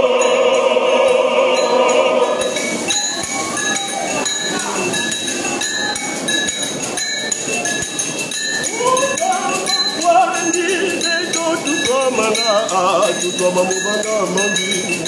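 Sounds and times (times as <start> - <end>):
jingling percussion: 0.0 - 15.0
voices singing: 0.0 - 15.0.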